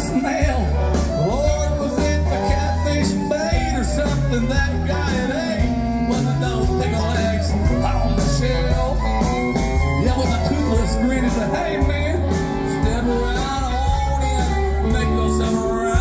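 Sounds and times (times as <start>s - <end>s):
country band playing: 0.0s - 16.0s.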